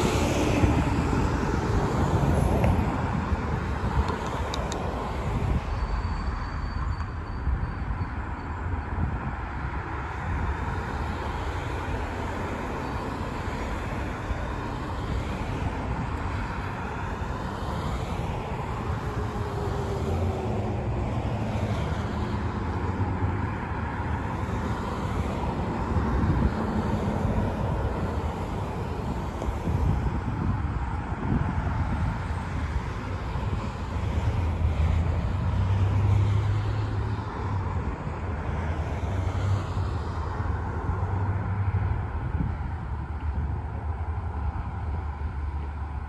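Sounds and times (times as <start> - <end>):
road traffic noise: 0.0 - 46.0.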